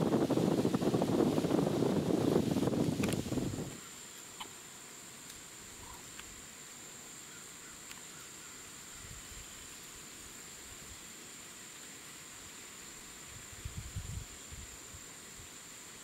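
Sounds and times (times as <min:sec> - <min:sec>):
insect trill: 0:00.0 - 0:16.0
soft hiss: 0:00.0 - 0:16.0.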